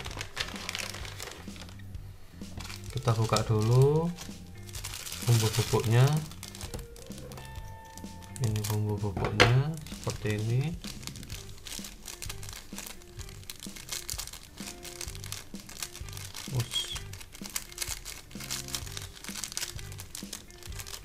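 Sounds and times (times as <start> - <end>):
foil sachet crinkling: 0.0 - 1.8, 2.5 - 9.1, 9.7 - 21.0
background music: 0.0 - 21.0.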